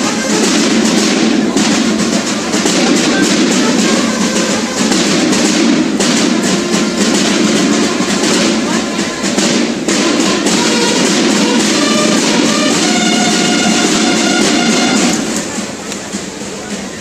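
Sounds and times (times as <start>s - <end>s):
drum and bugle corps playing: 0.0s - 17.0s
snare and bass drums march cadence: 0.0s - 17.0s.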